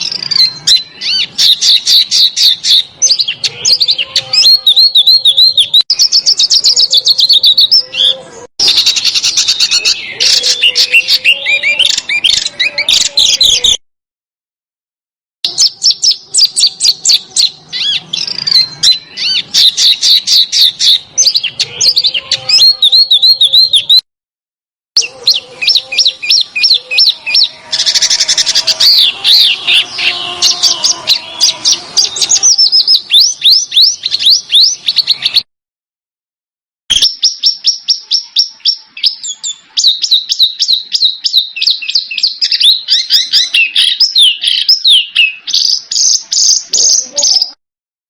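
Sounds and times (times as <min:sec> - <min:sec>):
songbird singing with trills: 0:00.0 - 0:13.8, 0:15.4 - 0:24.0, 0:25.0 - 0:35.5, 0:36.9 - 0:47.6.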